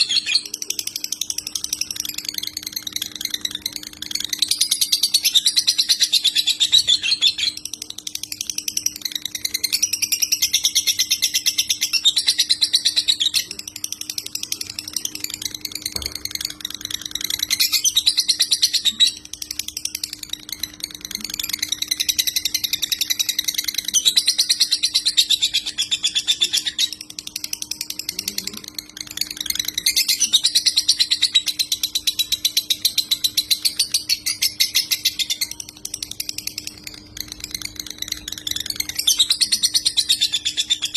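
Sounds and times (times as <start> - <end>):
lovebird chattering song: 0.0 - 40.9.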